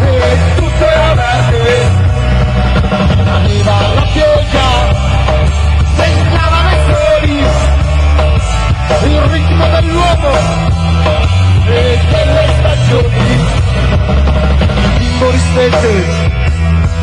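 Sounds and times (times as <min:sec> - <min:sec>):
live rock band playing: 0:00.0 - 0:17.0
pitch-bending lead melody: 0:00.0 - 0:17.0.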